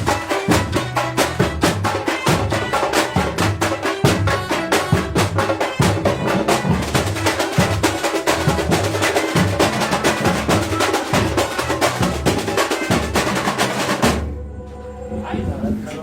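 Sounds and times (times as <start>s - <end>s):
percussion ensemble playing: 0.0s - 15.8s.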